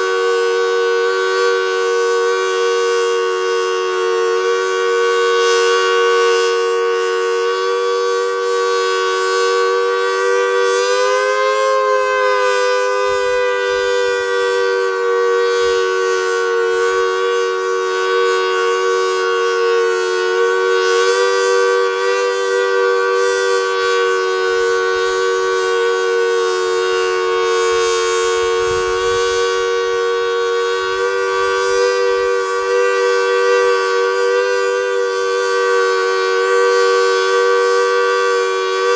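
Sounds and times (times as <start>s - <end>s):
two-tone warning siren: 0.0s - 38.9s.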